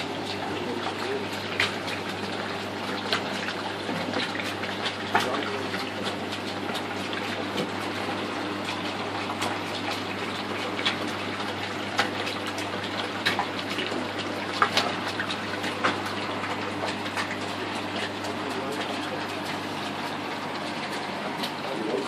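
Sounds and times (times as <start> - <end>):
low pump hum: 0.0 - 22.0
sharp clicks or splashes: 1.3 - 19.6.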